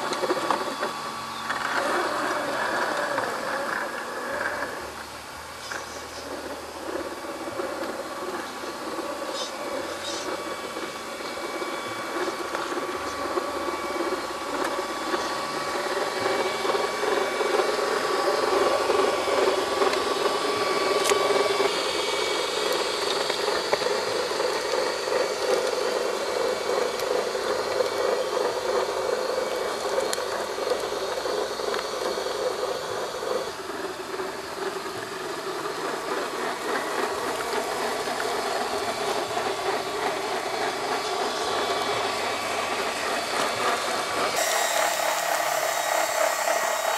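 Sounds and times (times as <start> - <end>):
electric motor and gearbox whining: 0.0 - 46.9.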